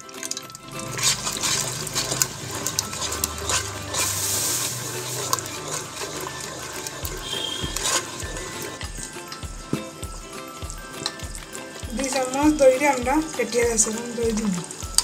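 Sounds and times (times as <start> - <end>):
sauce sloshing in a pan: 0.0 - 15.0
spoon scraping a pan: 0.3 - 12.9.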